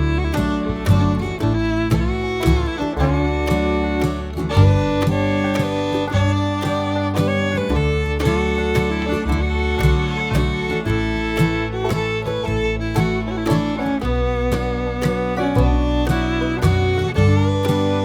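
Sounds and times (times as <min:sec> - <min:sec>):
fiddle melody: 0:00.0 - 0:18.0
strummed acoustic guitar: 0:00.0 - 0:18.0.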